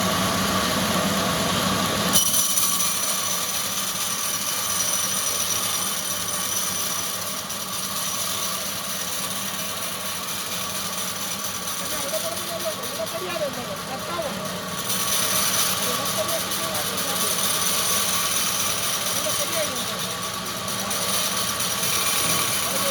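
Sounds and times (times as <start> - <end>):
wood-processing machinery running: 0.0 - 22.9.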